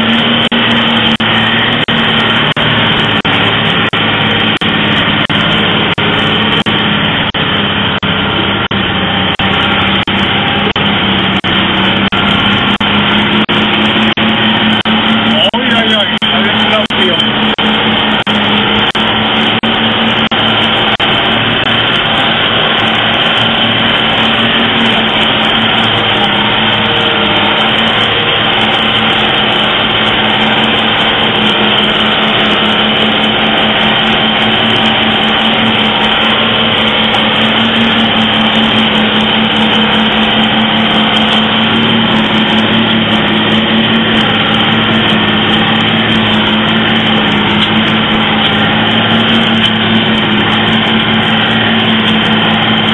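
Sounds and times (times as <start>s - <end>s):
high whine: 0.0s - 52.9s
road noise on gravel: 0.0s - 52.9s
vehicle engine running: 0.0s - 52.9s.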